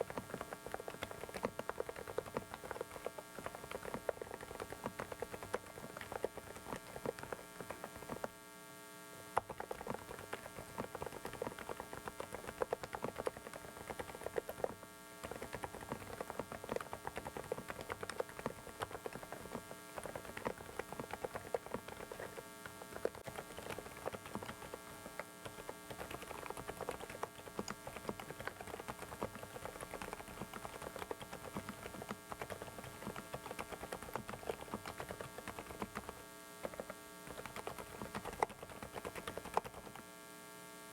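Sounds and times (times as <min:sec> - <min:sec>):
mechanical keyboard typing: 0:00.0 - 0:08.3, 0:09.4 - 0:40.0
electrical hum: 0:00.0 - 0:40.9
faulty microphone noise: 0:00.0 - 0:40.9.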